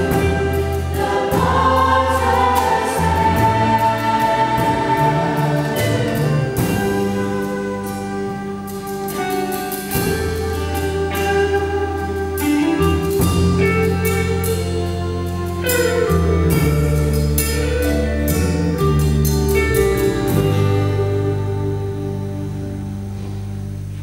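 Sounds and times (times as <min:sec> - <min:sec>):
bass guitar notes: 0:00.0 - 0:24.0
drum kit with cymbals: 0:00.0 - 0:24.0
electric guitars: 0:00.0 - 0:24.0.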